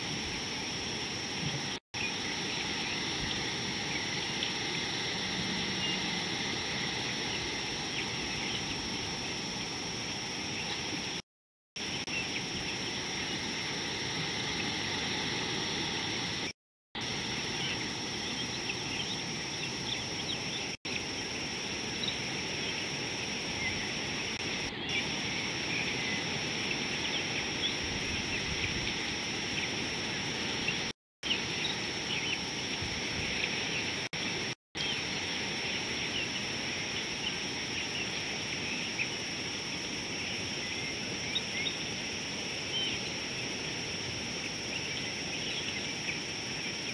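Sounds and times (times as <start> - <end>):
high insect drone: 0.0 - 11.2, 11.8 - 46.9.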